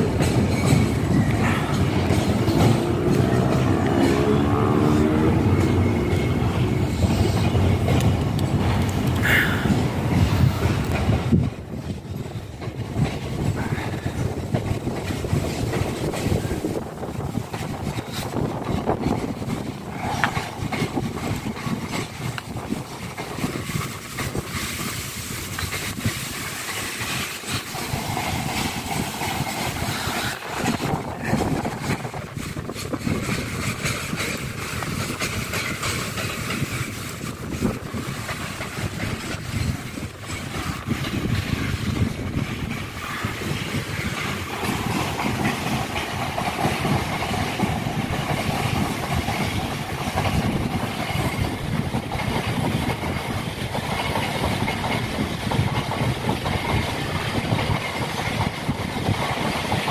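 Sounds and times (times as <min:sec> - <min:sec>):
freight train wagons rolling: 0:00.0 - 0:59.9.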